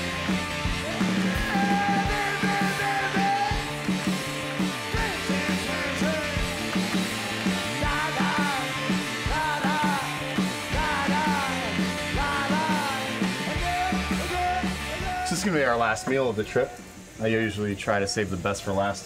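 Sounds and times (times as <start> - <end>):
rock music with bending lead: 0.0 - 16.0.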